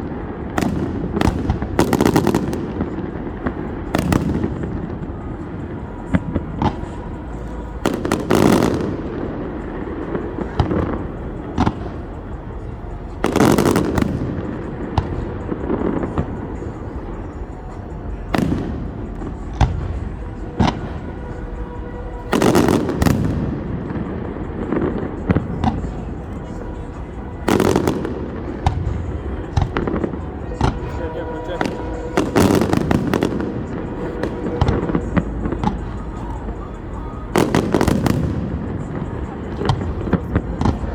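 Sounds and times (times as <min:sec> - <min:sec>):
fireworks bangs and pops: 0:00.0 - 0:40.9.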